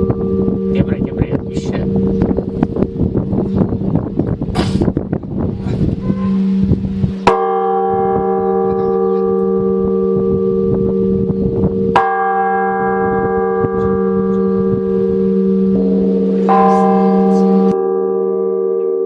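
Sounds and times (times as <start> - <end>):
church bell ringing: 0.0 - 4.0, 6.0 - 19.0.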